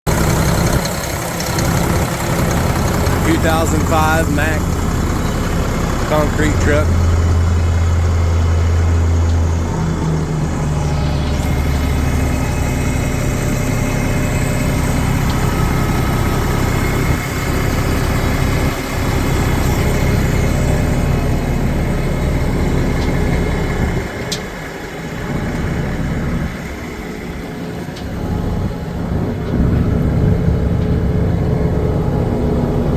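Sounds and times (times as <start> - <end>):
diesel truck engine idling: 0.1 - 32.9.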